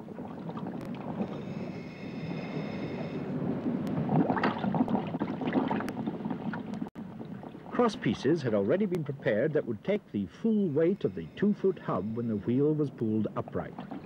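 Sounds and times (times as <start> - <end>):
underwater rushing and bubbling: 0.0 - 14.0.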